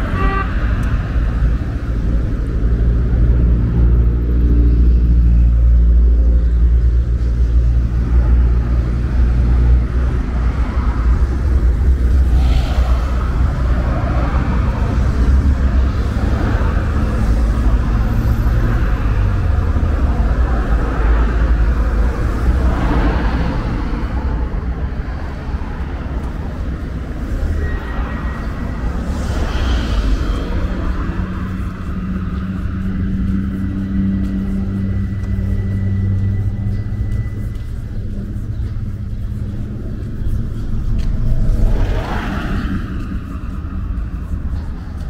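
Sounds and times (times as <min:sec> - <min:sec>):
cars passing: 0:00.0 - 0:45.0
deep traffic rumble: 0:00.0 - 0:45.0
engine hum: 0:00.0 - 0:45.0.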